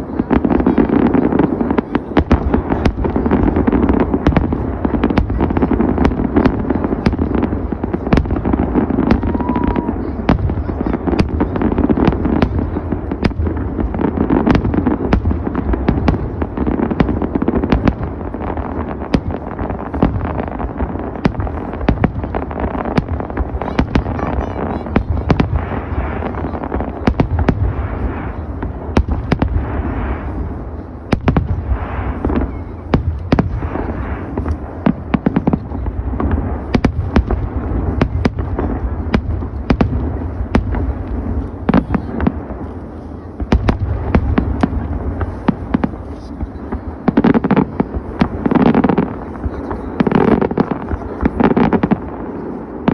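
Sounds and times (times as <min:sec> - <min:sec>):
booming rumble of fireworks: 0:00.0 - 0:52.9
fireworks bangs and crackles: 0:00.0 - 0:52.9.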